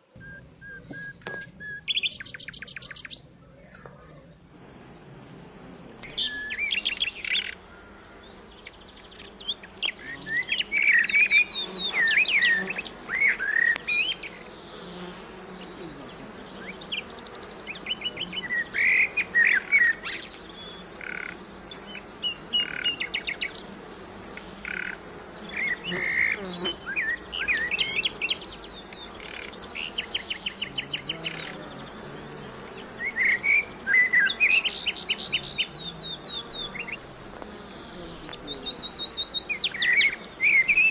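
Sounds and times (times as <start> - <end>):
honeybees buzzing: 0.0 - 40.9
songbirds singing: 0.0 - 40.9.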